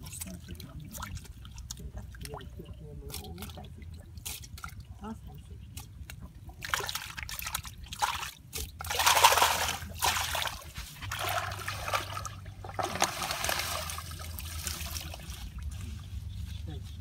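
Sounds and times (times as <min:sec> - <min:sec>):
muddy water splashing: 0:00.0 - 0:17.0.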